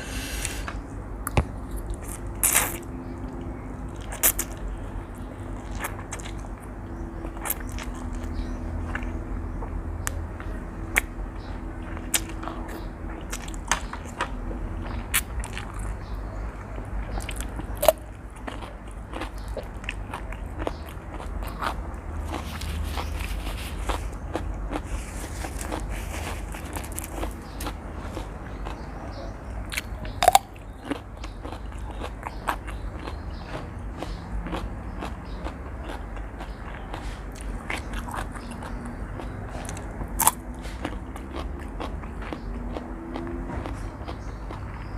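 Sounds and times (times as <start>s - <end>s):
steady low hum: 0.0s - 42.7s
chewing noodles: 1.8s - 44.9s.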